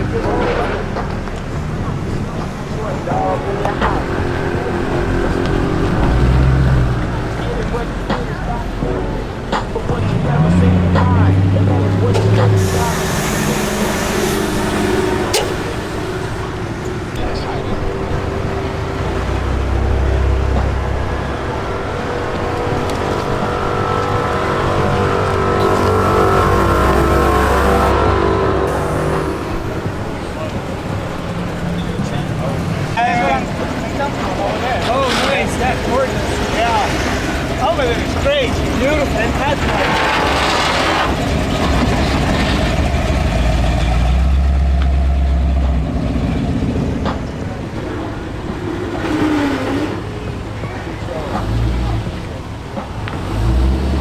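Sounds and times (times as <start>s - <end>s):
vehicles driving past: 0.0s - 54.0s.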